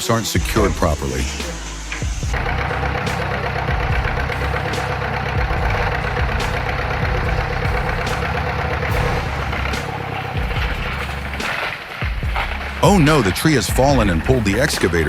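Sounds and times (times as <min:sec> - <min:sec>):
heavy machine engine idling: 0:00.5 - 0:15.0.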